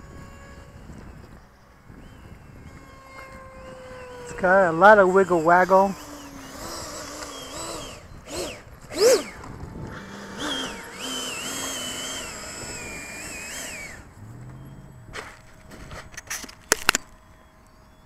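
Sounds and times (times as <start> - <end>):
electric ducted fan whining: 0.0 - 18.0.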